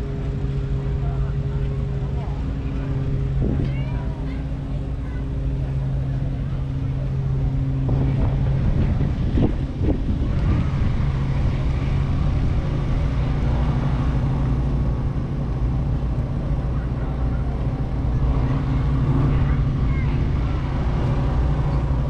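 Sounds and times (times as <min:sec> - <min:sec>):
engine idling hum: 0:00.0 - 0:22.0.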